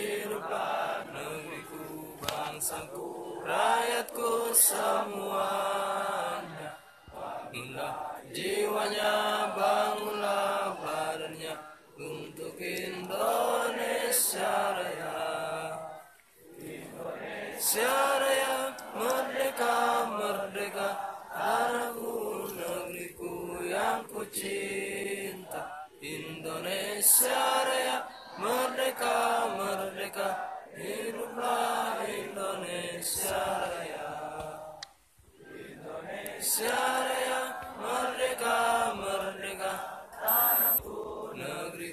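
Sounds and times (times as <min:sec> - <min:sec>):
group of voices singing: 0:00.0 - 0:41.9.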